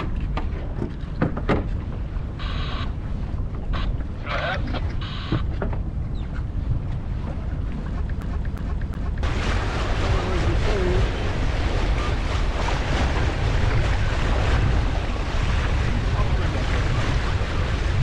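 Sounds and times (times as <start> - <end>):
water splashing along hull: 0.0 - 18.0
wind buffeting microphone: 0.0 - 18.0.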